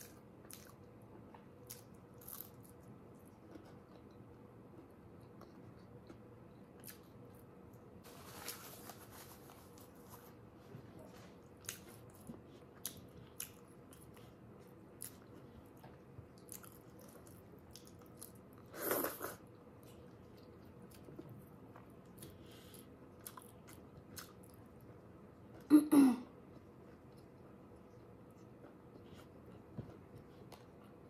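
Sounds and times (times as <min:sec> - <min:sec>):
person chewing with wet smacks: 0:00.0 - 0:07.4, 0:11.5 - 0:24.6, 0:26.5 - 0:31.0.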